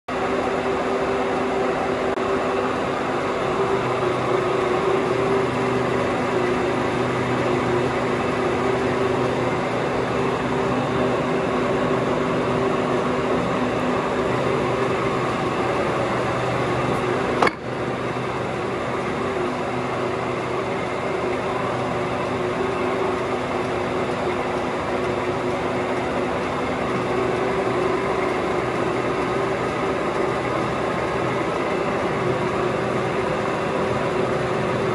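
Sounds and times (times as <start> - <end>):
machinery humming: 0.1 - 34.9.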